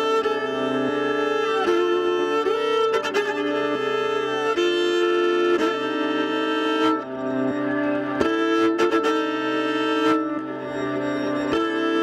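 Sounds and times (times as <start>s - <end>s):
viola bowed in sustained notes: 0.0s - 12.0s.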